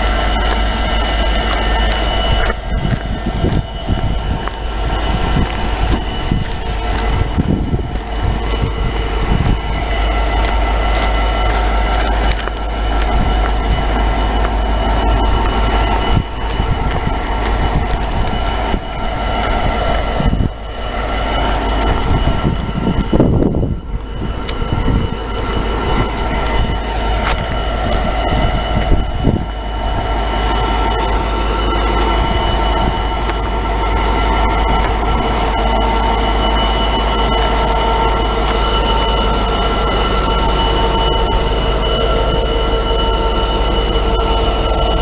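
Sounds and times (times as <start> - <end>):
steady high tones: 0.0 - 45.0
train low rumble: 0.0 - 45.0.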